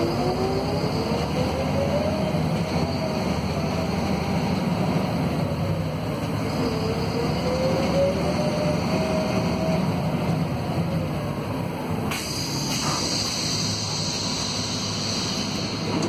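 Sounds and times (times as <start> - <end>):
bus diesel engine running: 0.0 - 16.0
road noise: 0.0 - 16.0.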